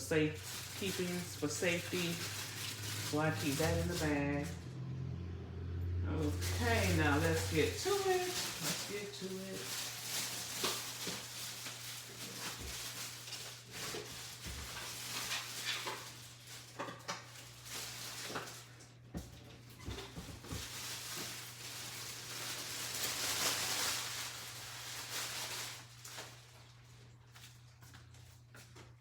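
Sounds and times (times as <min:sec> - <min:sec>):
cardboard and plastic rustling: 0:00.0 - 0:04.9, 0:06.2 - 0:29.0.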